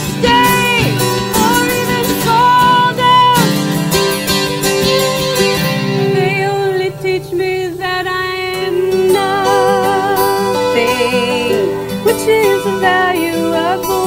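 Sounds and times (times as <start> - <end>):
fiddle and guitars folk music: 0.0 - 14.0
woman singing: 0.0 - 14.0.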